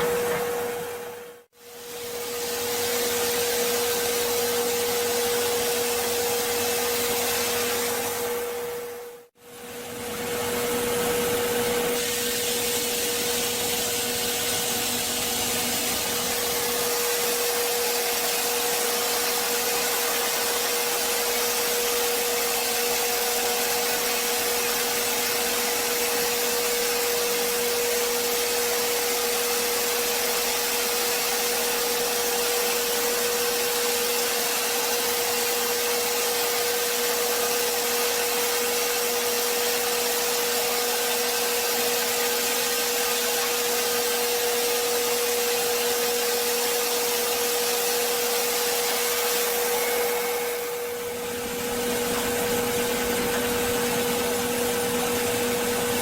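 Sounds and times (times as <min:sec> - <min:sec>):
wood-cutting machine running: 0:10.6 - 0:56.0.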